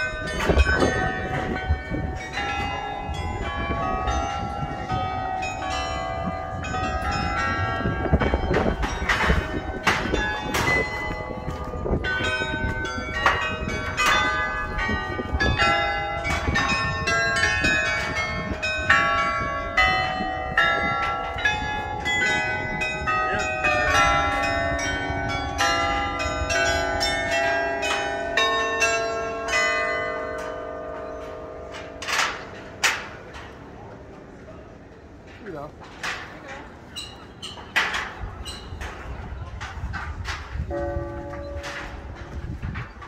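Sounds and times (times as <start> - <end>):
church bells ringing: 0.0 - 35.0, 36.0 - 43.0.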